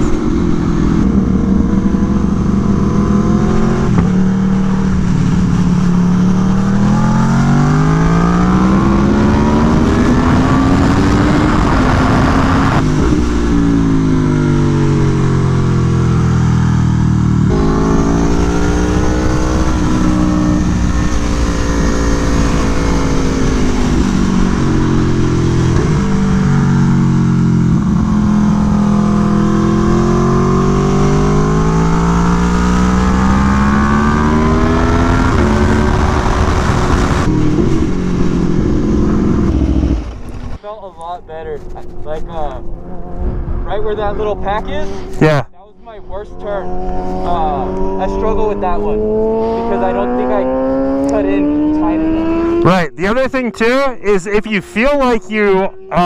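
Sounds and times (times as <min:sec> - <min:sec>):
motorcycle engine revving: 0:00.0 - 0:40.6, 0:46.1 - 0:56.0.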